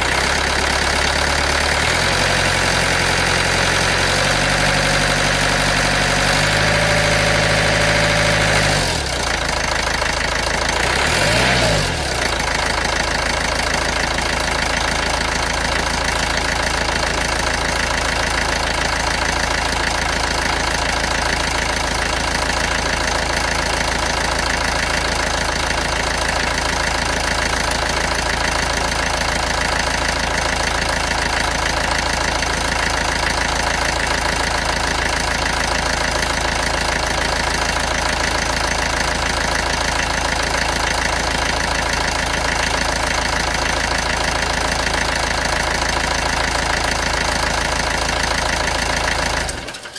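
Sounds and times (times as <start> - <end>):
diesel engine revving and idling: 0.0 - 49.9.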